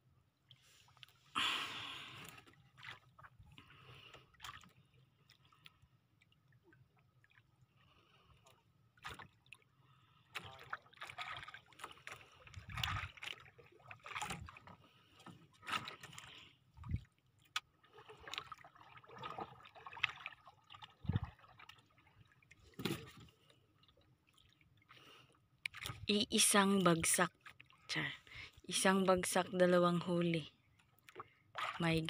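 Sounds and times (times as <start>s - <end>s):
waves lapping against boat: 0.5s - 32.0s.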